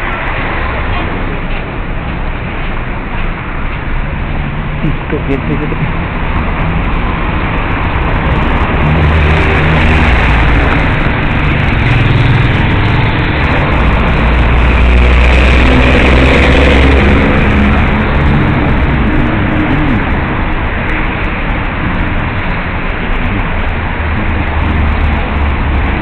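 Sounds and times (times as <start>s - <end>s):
car and bus engines passing: 0.0s - 26.0s.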